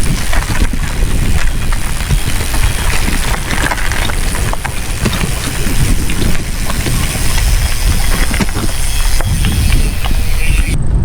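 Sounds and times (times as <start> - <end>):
bicycle tyres crunching gravel: 0.0 - 10.8
wind buffeting microphone: 0.0 - 11.0.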